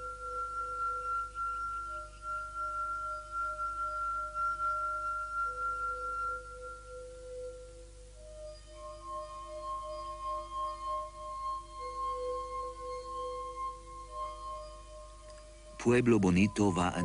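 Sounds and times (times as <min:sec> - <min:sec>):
high held tone: 0:00.0 - 0:17.0
lower changing tones: 0:00.0 - 0:17.0.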